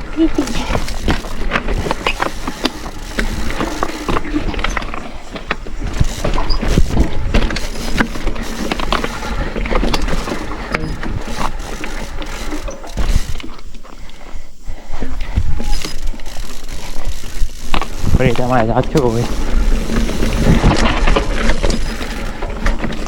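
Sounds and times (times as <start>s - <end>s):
bike chain rattling: 0.0s - 14.3s, 15.0s - 23.0s
ratchet-like ticking: 0.2s - 4.8s, 5.8s - 13.6s, 15.3s - 22.4s.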